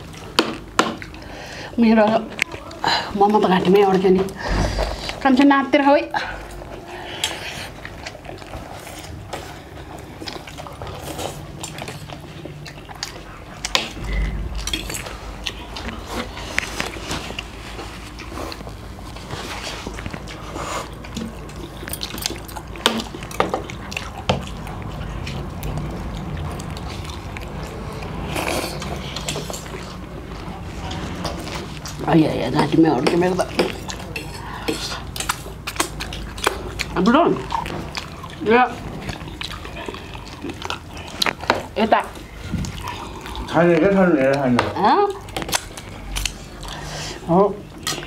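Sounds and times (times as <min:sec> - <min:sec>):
people chewing and slurping noodles: 0:00.0 - 0:48.0.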